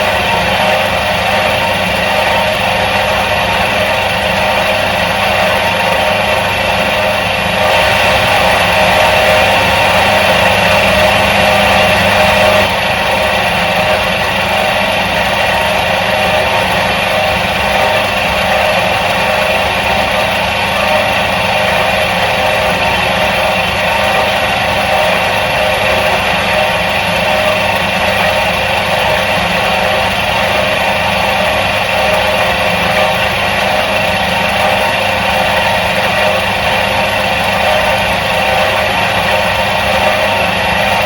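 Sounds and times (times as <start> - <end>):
washing machine motor humming: 0.0 - 41.0.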